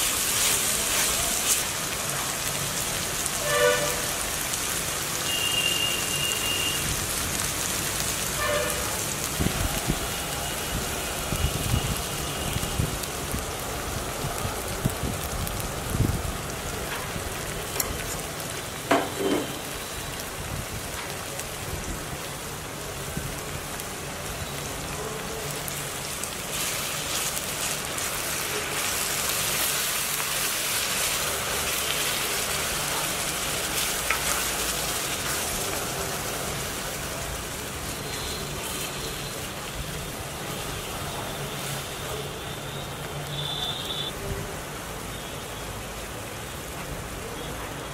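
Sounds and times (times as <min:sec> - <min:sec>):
puree and onions sizzling in oil: 0:00.0 - 0:47.9.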